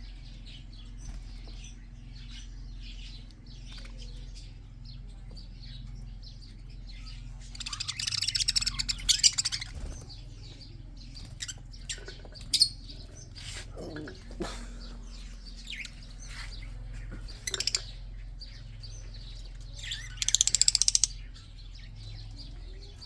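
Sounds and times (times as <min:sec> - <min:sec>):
budgerigars chirping and chattering: 0:00.0 - 0:23.0
steady low hum: 0:00.0 - 0:23.0.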